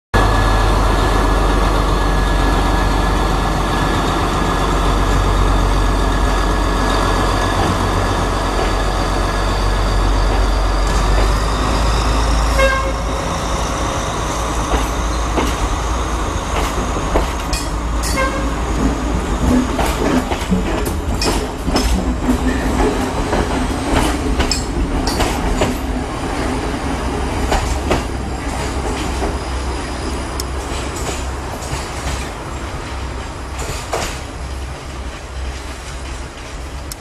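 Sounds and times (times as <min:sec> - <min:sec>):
diesel train engine rumbling: 0:00.2 - 0:37.0
train wheels clicking: 0:00.4 - 0:37.0.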